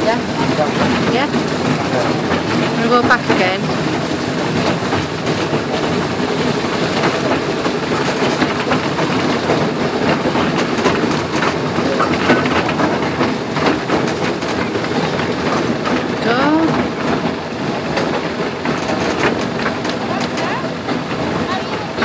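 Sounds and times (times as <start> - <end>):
miniature train wheels rattling: 0.0 - 22.0.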